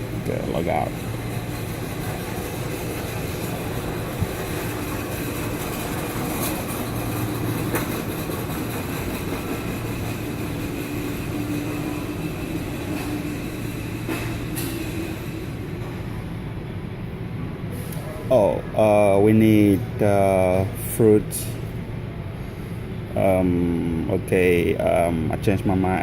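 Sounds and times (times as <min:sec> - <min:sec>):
store background hum: 0:00.0 - 0:26.0.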